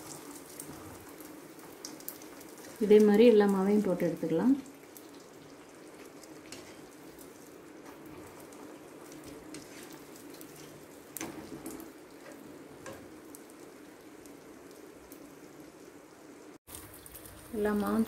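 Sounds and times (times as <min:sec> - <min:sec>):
deep-frying oil sizzling and crackling: 0:00.0 - 0:18.0.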